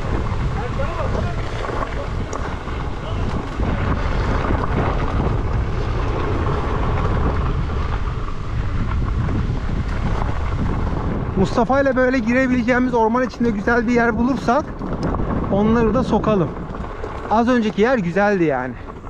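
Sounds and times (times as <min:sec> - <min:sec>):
tyres on gravel: 0:00.0 - 0:19.0
wind rumble on microphone: 0:00.0 - 0:19.0.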